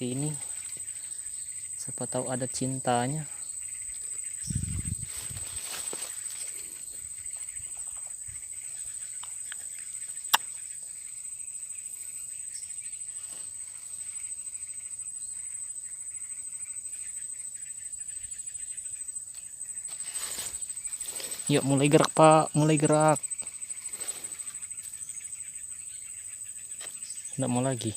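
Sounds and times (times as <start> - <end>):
faint outdoor background: 0.0 - 27.9
insects droning: 0.0 - 27.9.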